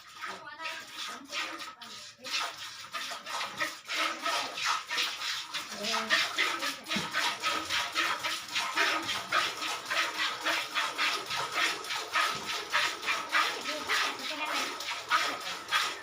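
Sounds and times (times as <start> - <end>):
milk squirting into a pail: 0.0 - 16.0.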